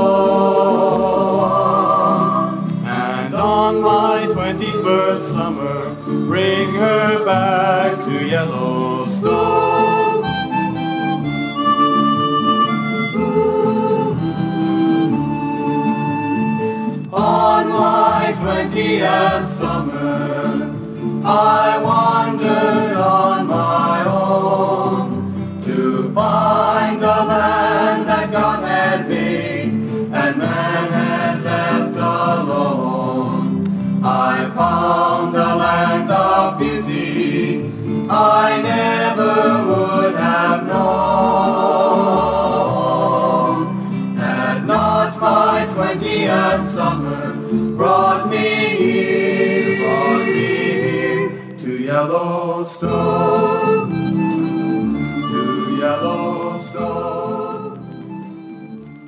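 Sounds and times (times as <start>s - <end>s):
folk group singing in harmony: 0.0s - 59.0s
steady musical accompaniment: 0.0s - 59.0s.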